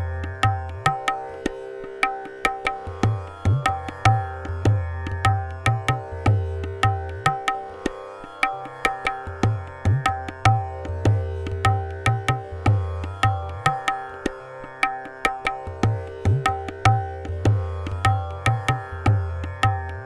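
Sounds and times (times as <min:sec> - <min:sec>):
tabla playing: 0:00.0 - 0:20.0
tanpura drone: 0:00.0 - 0:20.0.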